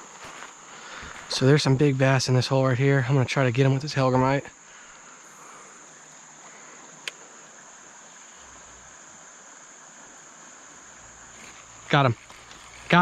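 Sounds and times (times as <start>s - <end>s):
creek water running: 0.0s - 13.0s
high insect drone: 0.0s - 13.0s.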